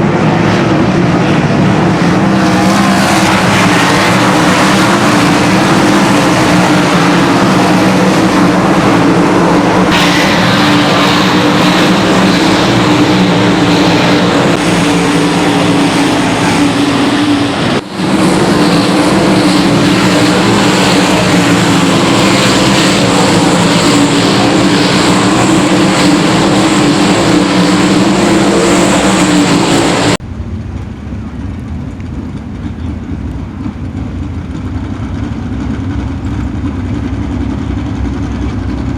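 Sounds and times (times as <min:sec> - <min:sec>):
low engine rumble: 0:00.0 - 0:38.9
racing car engines roaring: 0:00.0 - 0:38.9.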